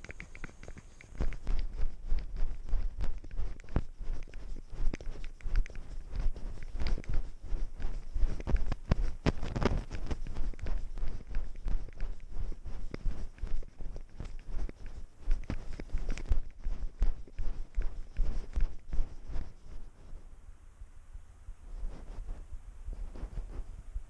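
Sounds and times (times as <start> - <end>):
cat footsteps crunching in snow: 0.0 - 20.0.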